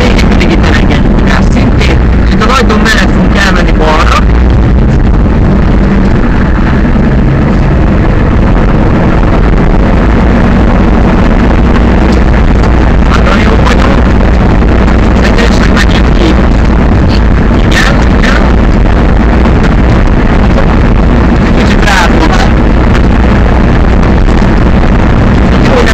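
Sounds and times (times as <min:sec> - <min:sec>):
truck engine running: 0:00.0 - 0:25.9.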